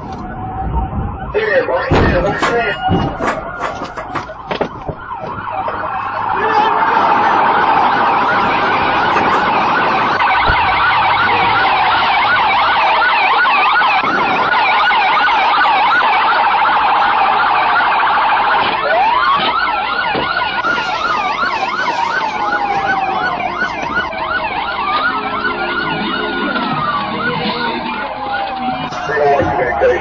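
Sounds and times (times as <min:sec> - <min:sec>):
police siren wail: 0:00.0 - 0:30.0
police siren yelp: 0:00.0 - 0:30.0.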